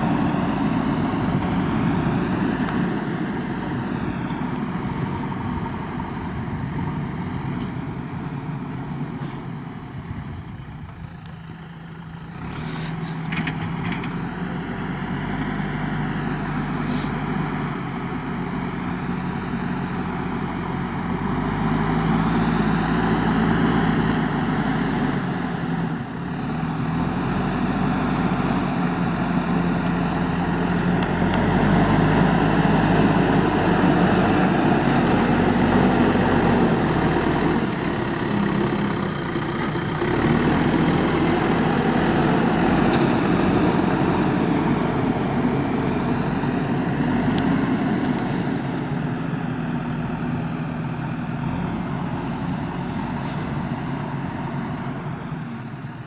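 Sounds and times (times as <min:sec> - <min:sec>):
diesel engine of loader working: 0:00.0 - 0:56.0.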